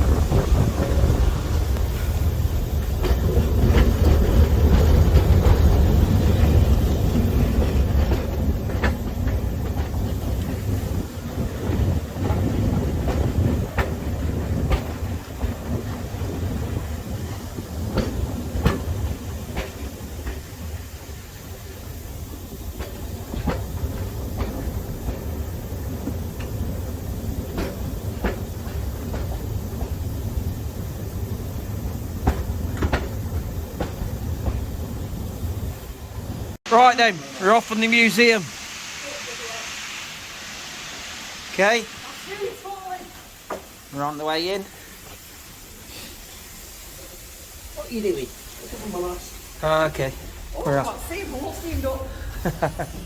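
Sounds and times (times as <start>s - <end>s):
wheels clicking over rail joints: 0.0s - 38.4s, 41.5s - 53.0s
train rumbling on track: 0.0s - 53.0s.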